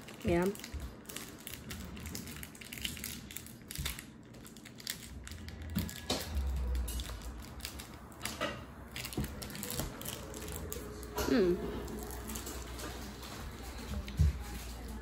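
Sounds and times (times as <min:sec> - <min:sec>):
chewing gummy candy: 0:00.0 - 0:14.6.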